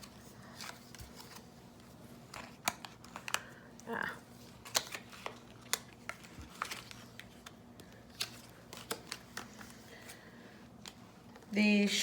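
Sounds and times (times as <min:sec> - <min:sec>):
flashcards clicking and tapping: 0:00.0 - 0:03.9, 0:04.5 - 0:11.5.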